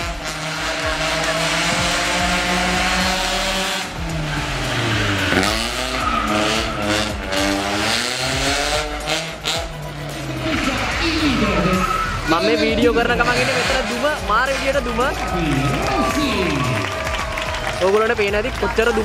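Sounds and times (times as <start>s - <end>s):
car engine revving: 0.0s - 19.0s
tyres squealing: 0.1s - 16.8s.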